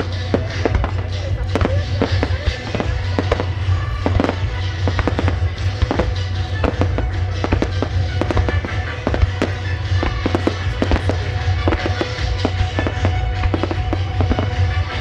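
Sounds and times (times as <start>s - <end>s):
fireworks bursting and crackling: 0.0s - 15.0s
show music from loudspeakers: 0.0s - 15.0s.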